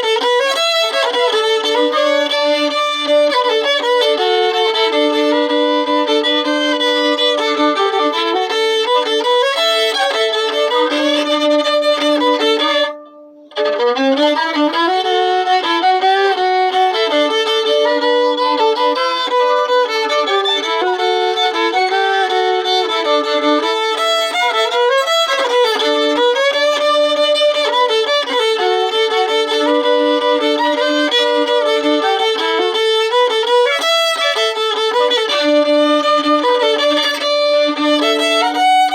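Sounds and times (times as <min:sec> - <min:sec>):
fiddle playing: 0:00.0 - 0:38.9.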